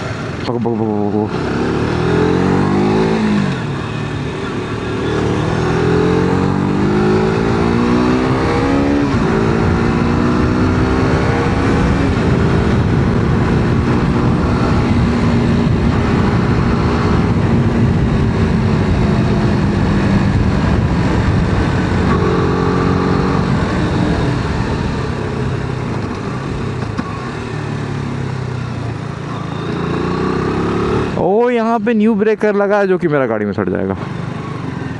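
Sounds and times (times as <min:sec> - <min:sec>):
motorcycle engine accelerating: 0:00.0 - 0:31.5.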